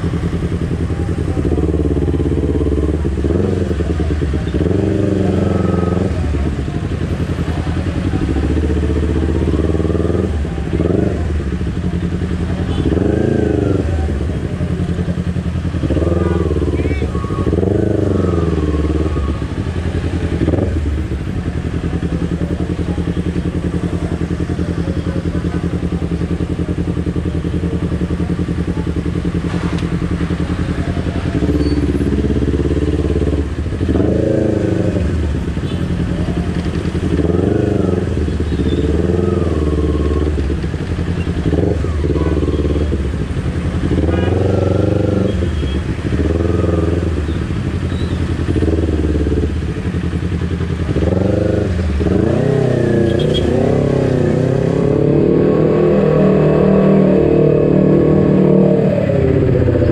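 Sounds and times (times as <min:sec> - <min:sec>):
motorcycle engine running: 0:00.0 - 0:59.9
motorcycle throttle blips: 0:00.0 - 0:59.9.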